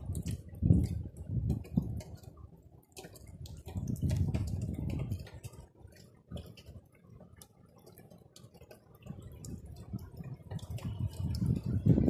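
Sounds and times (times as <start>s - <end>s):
rain and snow drops ticking: 0.0s - 12.0s.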